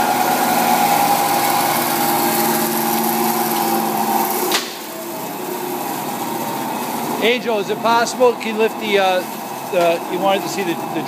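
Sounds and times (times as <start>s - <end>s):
bandsaw whining: 0.0s - 11.0s.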